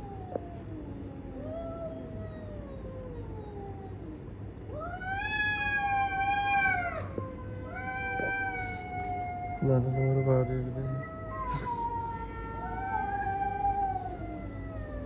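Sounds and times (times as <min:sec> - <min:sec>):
cats yowling: 0:00.0 - 0:15.0.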